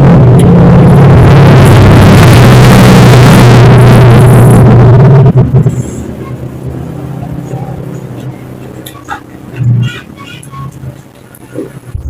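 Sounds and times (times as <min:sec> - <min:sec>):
loud engine running: 0:00.0 - 0:12.0.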